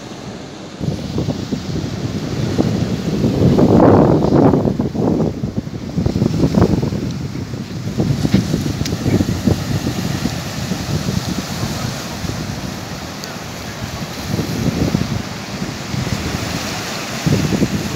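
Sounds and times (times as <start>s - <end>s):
surf breaking on rocky shore: 0.0s - 17.9s
wind buffeting microphone: 0.0s - 17.9s.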